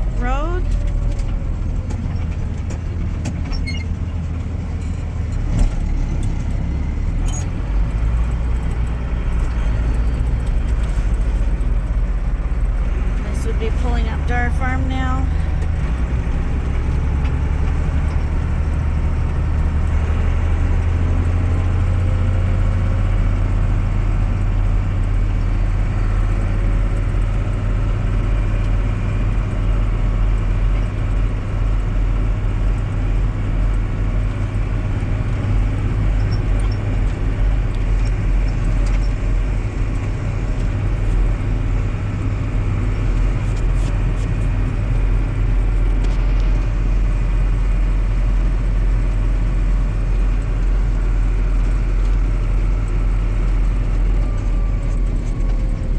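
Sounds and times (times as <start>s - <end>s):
engine and road noise rumble: 0.0s - 55.9s.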